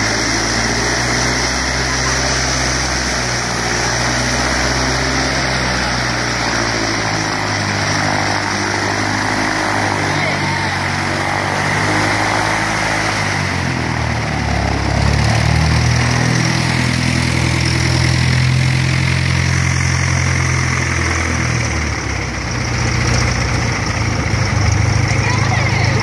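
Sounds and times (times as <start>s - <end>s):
light plane engine and propeller: 0.0s - 26.0s.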